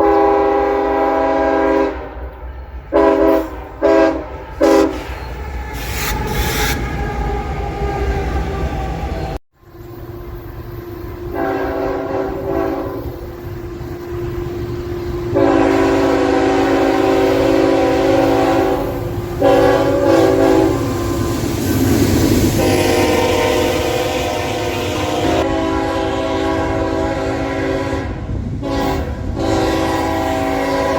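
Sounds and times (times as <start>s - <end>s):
locomotive air horn blasts: 0.0s - 8.9s, 11.2s - 13.3s, 14.1s - 21.6s, 22.4s - 30.9s
passing train rumble: 0.0s - 30.9s.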